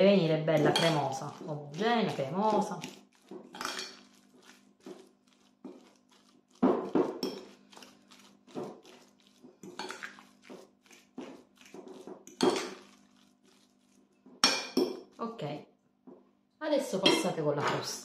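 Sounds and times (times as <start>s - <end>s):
fork scraping glass bowl: 0.6s - 15.2s.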